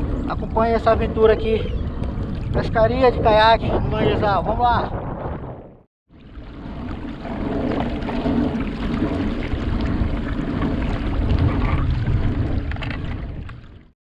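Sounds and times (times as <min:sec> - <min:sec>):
water rushing along kayak hull: 0:00.0 - 0:04.8, 0:06.1 - 0:13.9
wind buffeting microphone: 0:00.0 - 0:13.9.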